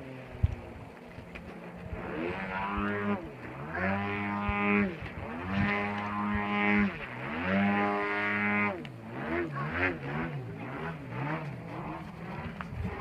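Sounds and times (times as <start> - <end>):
model plane engine in flight: 0.0 - 13.0.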